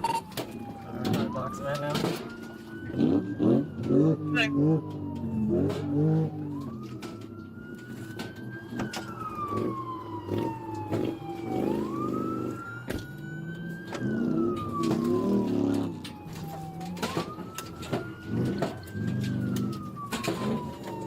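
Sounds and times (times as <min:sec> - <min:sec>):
car engine: 0:00.0 - 0:21.0
police siren wailing: 0:00.0 - 0:21.0.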